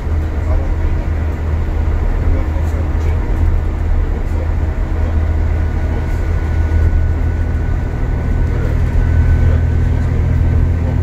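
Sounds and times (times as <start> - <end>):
bus diesel engine drone: 0.0 - 11.0
road noise: 0.0 - 11.0.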